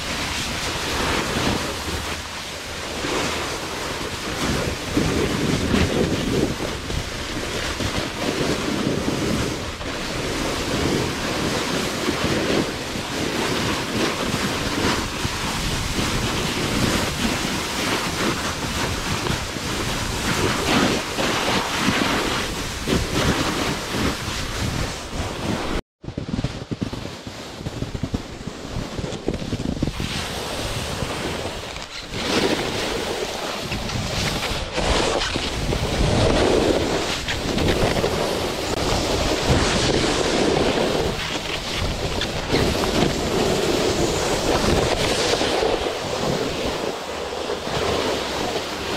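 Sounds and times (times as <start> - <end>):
snowboard scraping on snow: 0.0 - 48.9
wind rushing over microphone: 0.0 - 48.9.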